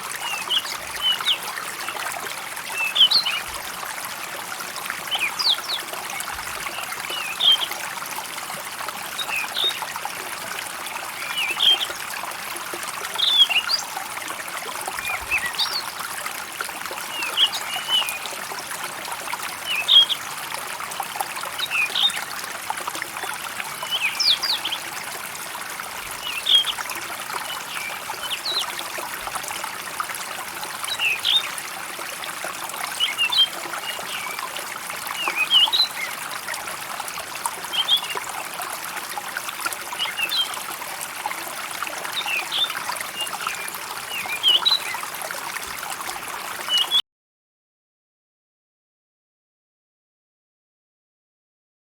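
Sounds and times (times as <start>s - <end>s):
stream trickling: 0.0s - 47.0s.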